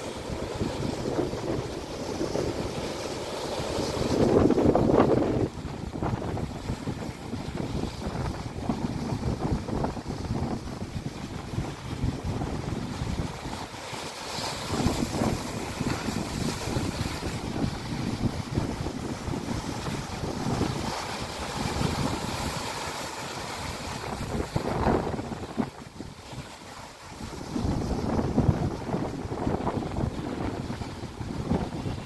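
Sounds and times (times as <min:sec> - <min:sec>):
wind buffeting microphone: 0:00.0 - 0:03.2, 0:03.8 - 0:13.7, 0:14.6 - 0:32.0
waves breaking over boulders: 0:00.0 - 0:32.0.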